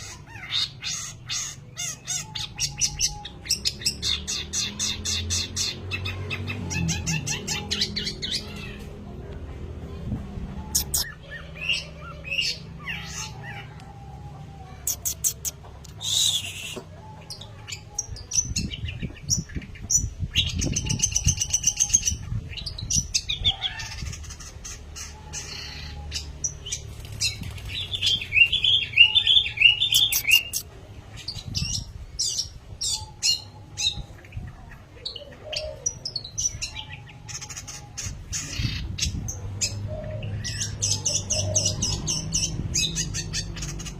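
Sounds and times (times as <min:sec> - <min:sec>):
bird singing chirps and trills: 0:00.0 - 0:09.1, 0:09.8 - 0:43.9.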